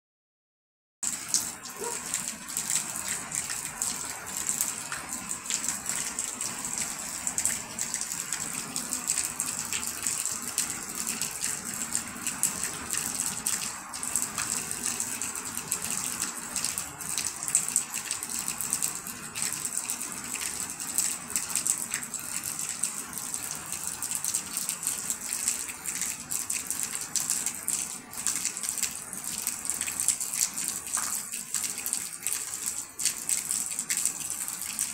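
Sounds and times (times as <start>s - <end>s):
steady rain with drops and splashes: 1.0s - 34.9s.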